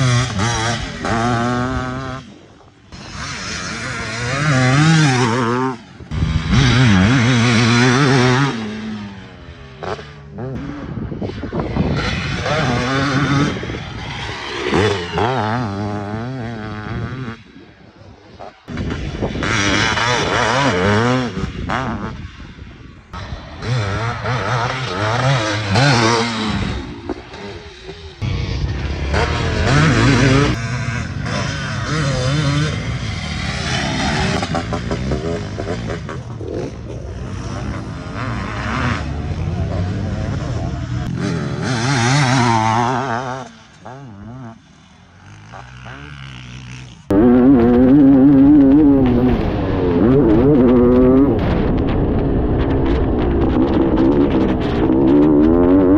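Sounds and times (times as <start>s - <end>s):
two-stroke motorcycle engine revving: 0.0s - 55.9s.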